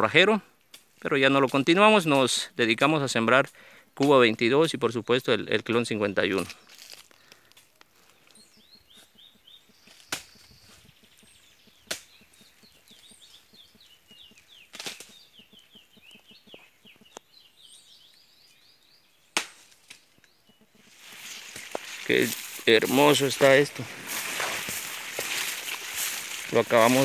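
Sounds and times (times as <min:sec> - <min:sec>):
small birds chirping: 0:01.5 - 0:27.0.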